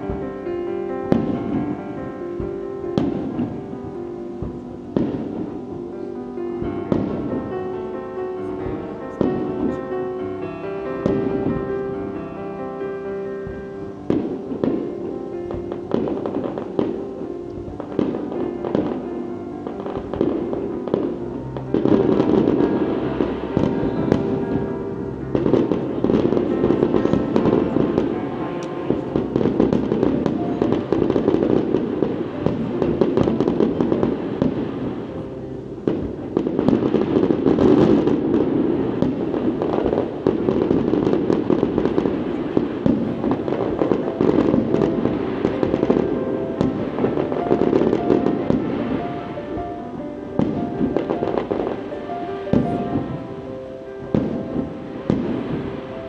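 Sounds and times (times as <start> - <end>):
fireworks bursts and crackling: 0.0 - 56.0
music playing: 0.0 - 56.0.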